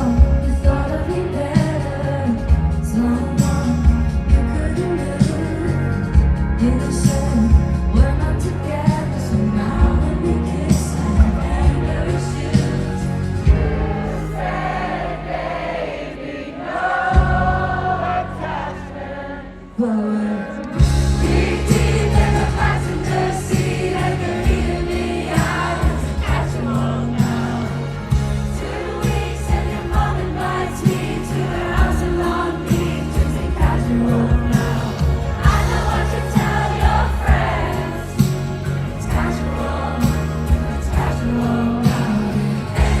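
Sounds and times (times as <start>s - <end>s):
live pop band with singing: 0.0s - 43.0s.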